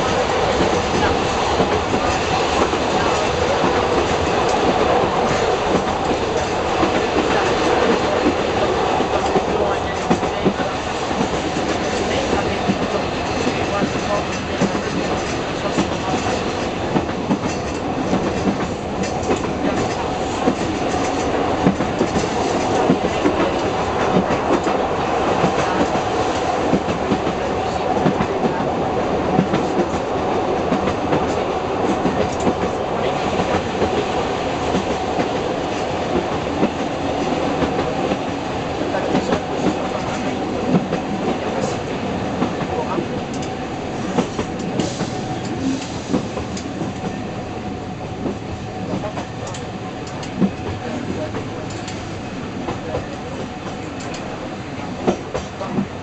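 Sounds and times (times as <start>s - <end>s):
railcar steady hum: 0.0s - 56.0s
wheels clickety-clack over rail: 0.0s - 56.0s.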